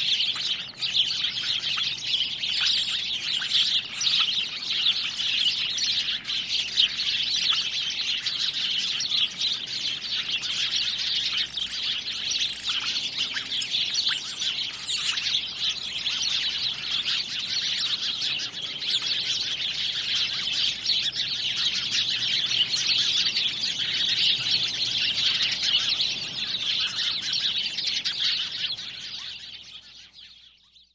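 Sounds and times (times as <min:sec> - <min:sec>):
birds chirping chorus: 0:00.0 - 0:30.9.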